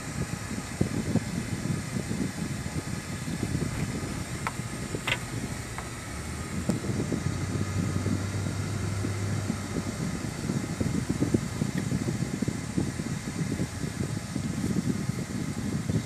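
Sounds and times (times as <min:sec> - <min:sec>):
car cabin road rumble: 0:00.0 - 0:16.0
low engine hum: 0:00.0 - 0:16.0.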